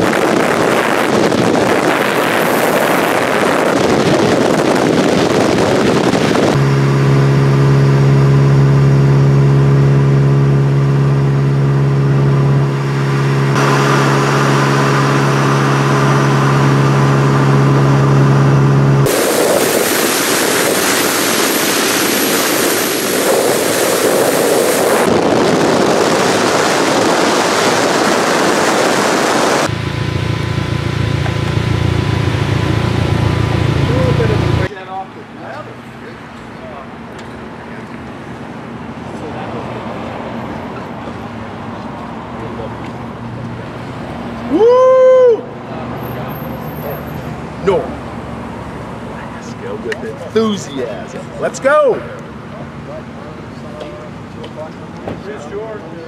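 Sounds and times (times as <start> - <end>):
low engine hum: 0.0 - 56.0
vehicle engine droning: 0.0 - 56.0
wind and road rush: 0.0 - 56.0.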